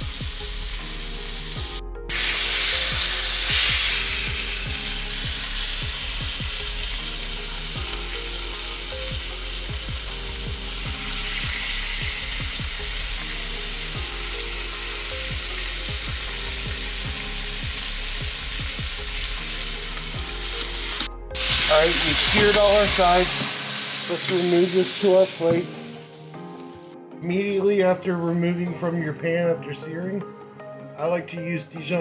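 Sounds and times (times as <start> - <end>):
meat sizzling in frying pan: 0.0 - 26.9.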